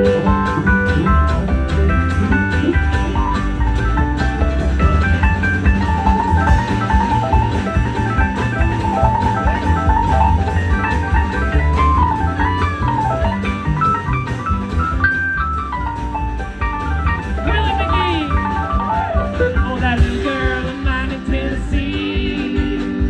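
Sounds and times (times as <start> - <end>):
string band playing country music: 0.0 - 23.0.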